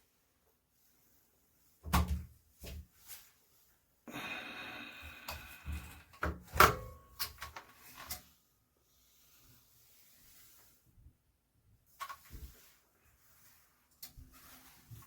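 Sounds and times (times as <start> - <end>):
rustle of objects handled: 0.0 - 6.2, 7.0 - 15.0.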